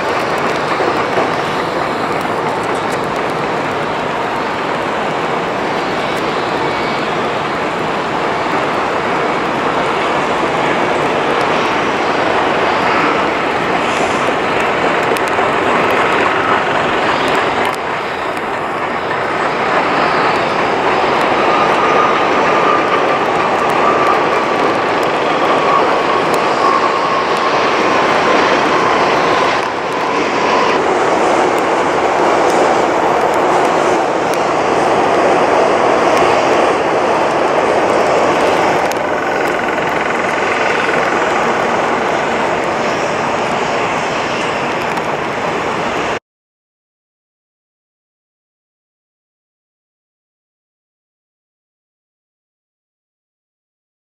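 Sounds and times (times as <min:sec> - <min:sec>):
jet engines rushing with whine: 0:00.0 - 0:46.2.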